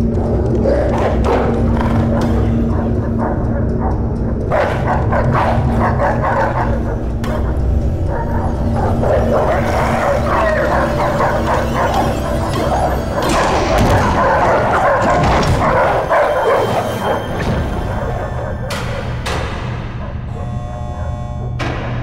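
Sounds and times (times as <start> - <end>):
dogs barking: 0.0 - 21.6.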